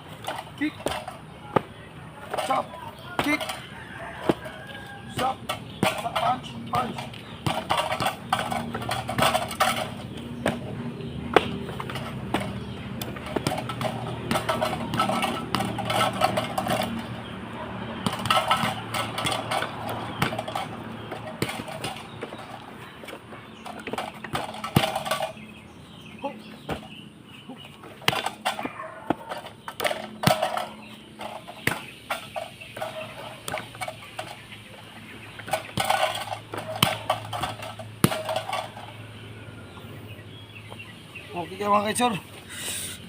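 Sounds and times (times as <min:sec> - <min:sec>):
chickens clucking: 0:02.2 - 0:43.0.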